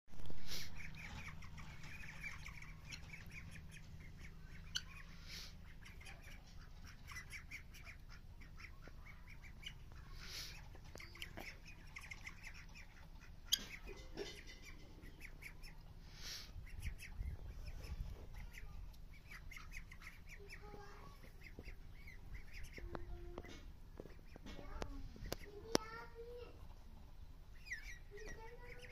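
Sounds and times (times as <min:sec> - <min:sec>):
turkeys and guineafowl calling: 0:00.4 - 0:24.5.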